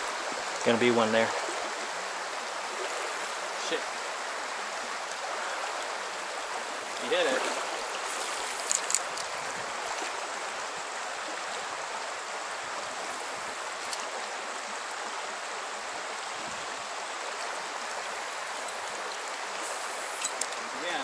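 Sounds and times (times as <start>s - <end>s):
stream water rushing: 0.0s - 21.0s.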